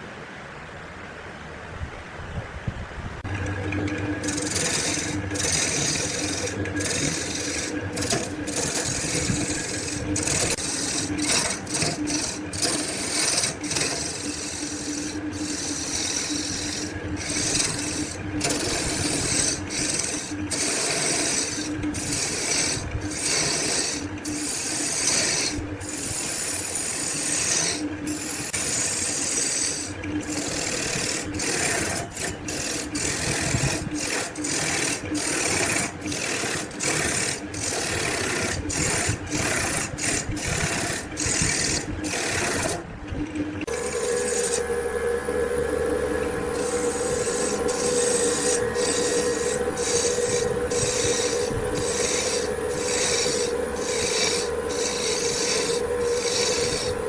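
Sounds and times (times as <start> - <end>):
steady low hum: 0.0 - 57.0
abrasive tool rasping on wood: 3.7 - 42.9, 43.6 - 57.0.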